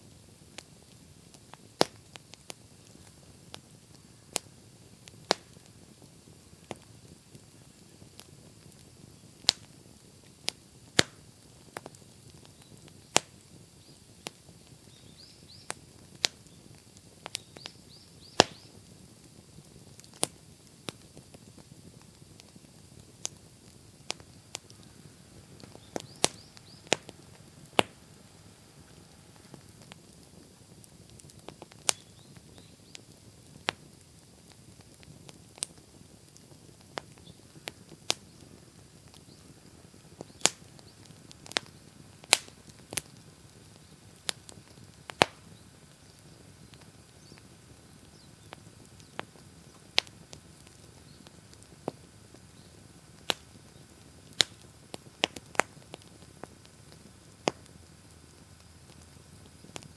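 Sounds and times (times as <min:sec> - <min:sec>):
bonfire crackling and popping: 0:00.0 - 0:59.9
low rush of burning fire: 0:00.0 - 0:59.9.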